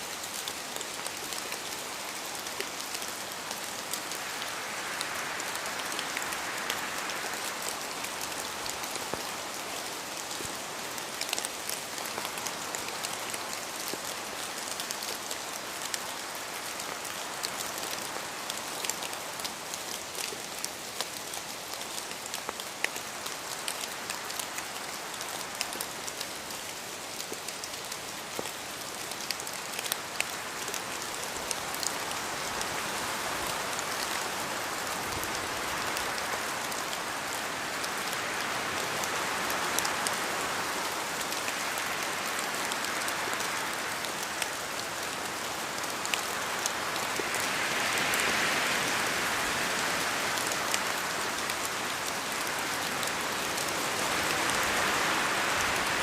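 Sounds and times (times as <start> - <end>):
rain falling: 0.0 - 56.0
raindrops striking close by: 0.0 - 56.0.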